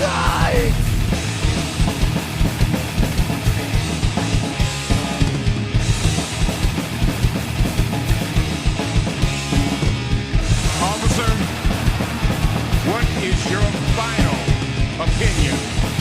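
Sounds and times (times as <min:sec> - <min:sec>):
fast drum kit: 0:00.0 - 0:16.0
thrash metal band playing: 0:00.0 - 0:16.0.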